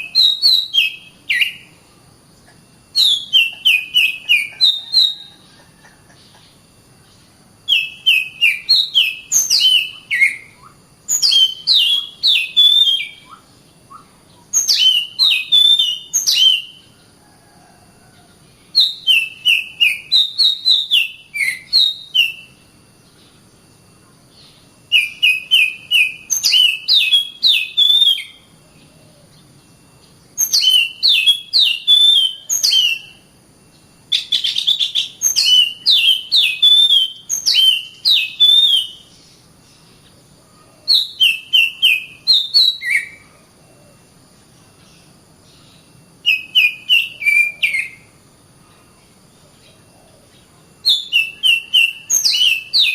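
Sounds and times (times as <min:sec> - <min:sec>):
bird singing chirping phrases: 0:00.0 - 0:05.6, 0:06.2 - 0:17.1, 0:18.5 - 0:52.9.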